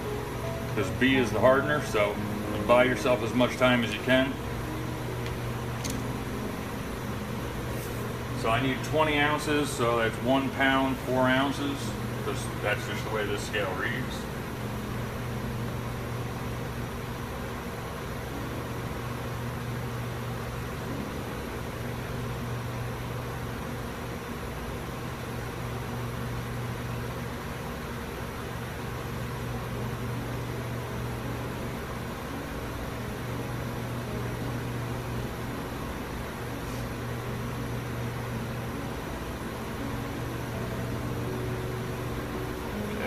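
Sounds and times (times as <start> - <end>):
steady low machine hum: 0.0 - 43.0.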